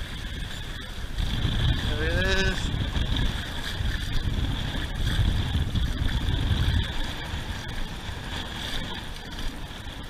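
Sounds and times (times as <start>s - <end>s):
shallow surf washing: 0.0s - 10.0s
wind buffeting microphone: 0.0s - 10.0s.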